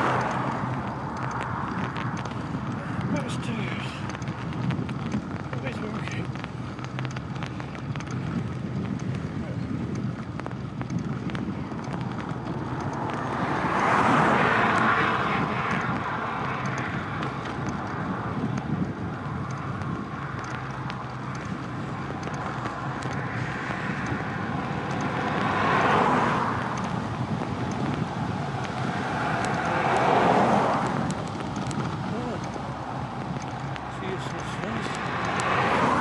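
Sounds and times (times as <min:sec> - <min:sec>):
cars passing: 0:00.0 - 0:36.0
wind rushing while cycling: 0:00.0 - 0:36.0.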